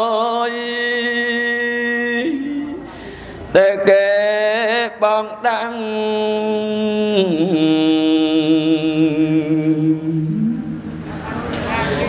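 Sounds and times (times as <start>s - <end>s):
man chanting: 0.0s - 2.9s, 3.5s - 11.0s.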